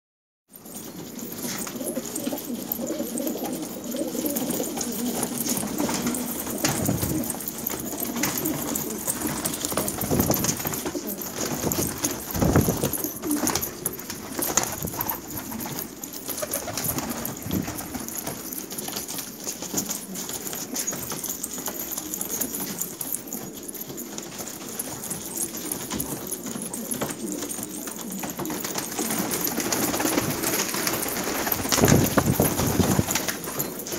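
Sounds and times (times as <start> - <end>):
pigeons cooing: 0.7 - 18.9, 19.7 - 33.9
wings flapping: 0.7 - 33.9.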